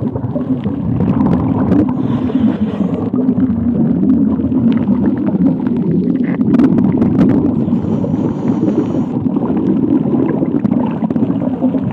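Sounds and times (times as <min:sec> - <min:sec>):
underwater rushing water: 0:00.0 - 0:11.9.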